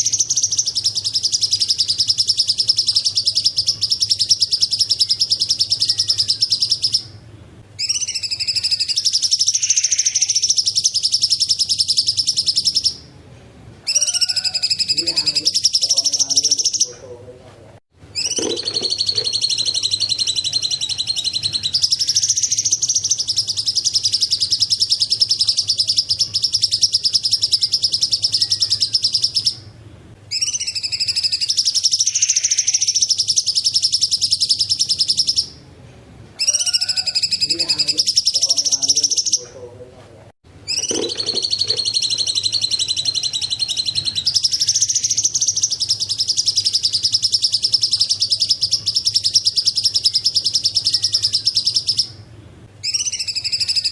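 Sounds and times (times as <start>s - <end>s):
bird chattering trill: 0.0s - 7.2s, 7.8s - 13.1s, 13.9s - 17.0s, 18.1s - 29.6s, 30.3s - 35.6s, 36.4s - 39.6s, 40.6s - 52.2s, 52.8s - 53.9s.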